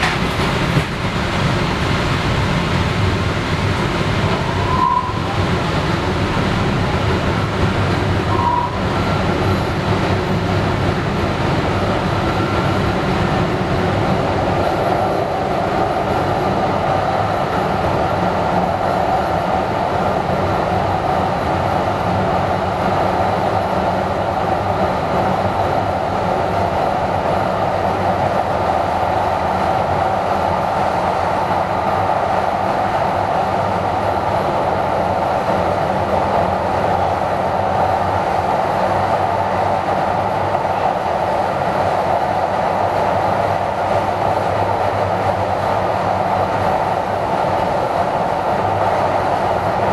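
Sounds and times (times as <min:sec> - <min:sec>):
light rail car rumbling: 0:00.0 - 0:49.9.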